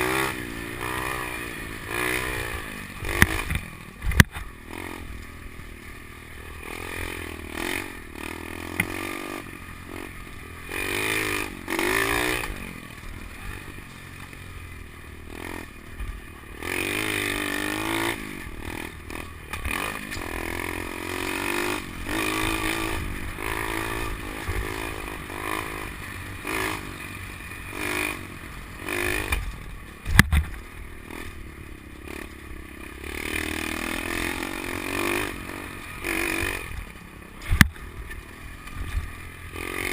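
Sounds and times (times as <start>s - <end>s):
bike rattling: 0.0s - 39.9s
motorbike engine revving: 0.0s - 39.9s.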